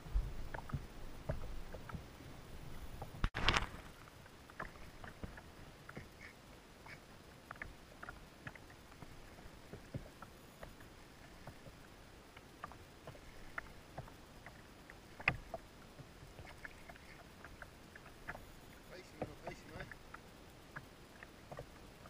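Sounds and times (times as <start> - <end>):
water lapping against boat hull: 0.0 - 22.0.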